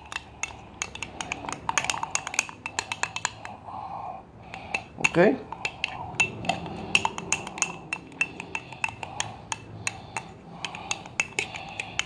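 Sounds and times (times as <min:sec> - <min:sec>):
spoon clinking in glass jar: 0:00.0 - 0:03.5, 0:04.6 - 0:12.0.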